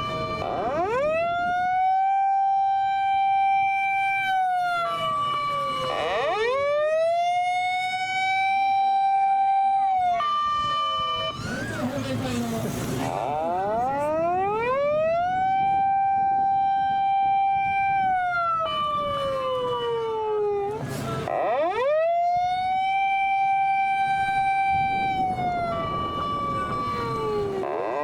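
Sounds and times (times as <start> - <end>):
higher steady siren tone: 0.0 - 12.3, 13.0 - 28.0
fire engine siren wailing: 0.0 - 28.0.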